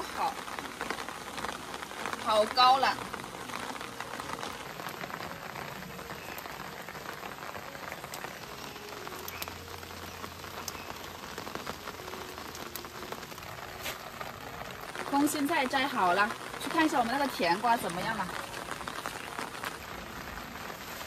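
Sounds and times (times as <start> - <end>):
rain on umbrella and leaves: 0.0 - 21.0.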